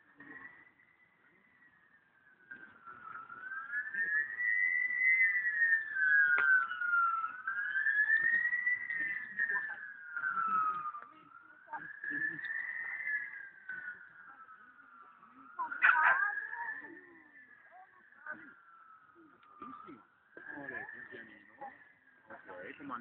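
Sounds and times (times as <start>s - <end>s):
wailing siren: 0.0s - 23.0s.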